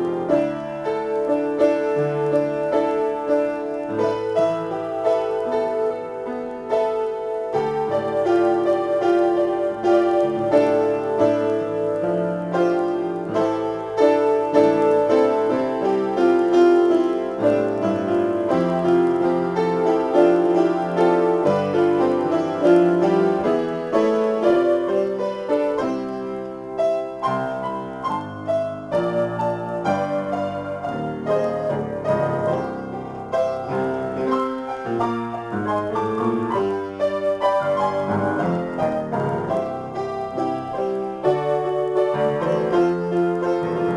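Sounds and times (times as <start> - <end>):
upright piano playing: 0.0 - 43.9.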